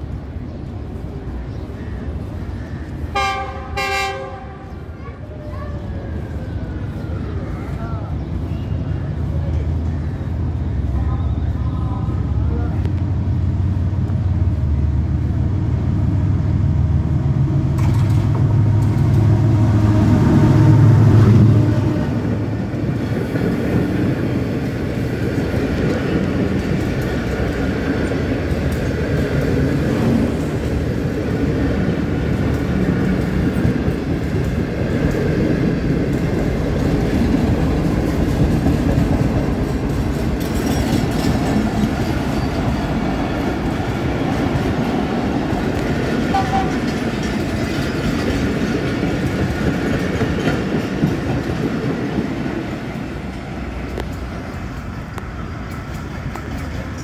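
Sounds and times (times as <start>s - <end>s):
train coaches rolling on track: 0.0s - 57.0s
locomotive engine passing: 2.0s - 57.0s.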